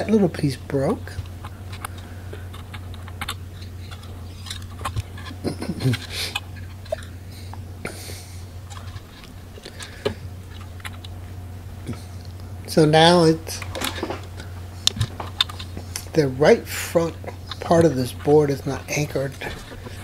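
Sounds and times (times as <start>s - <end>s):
low murmur: 0.0s - 20.0s
steady low hum: 0.0s - 20.0s.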